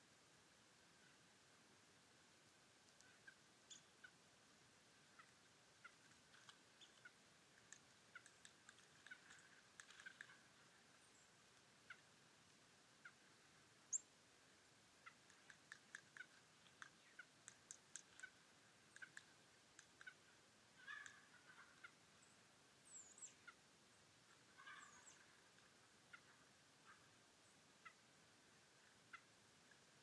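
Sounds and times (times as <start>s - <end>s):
small birds chirping: 2.8s - 4.2s, 5.0s - 12.2s, 12.9s - 14.2s, 15.0s - 30.0s.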